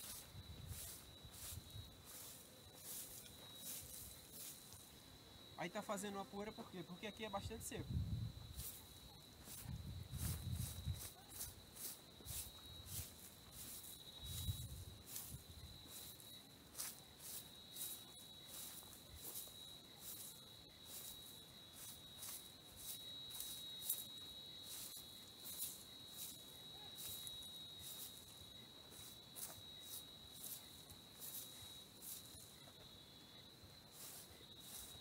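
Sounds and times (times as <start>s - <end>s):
broom sweeping sandy dirt: 0.0s - 5.6s, 8.3s - 35.0s
high insect drone: 0.0s - 35.0s.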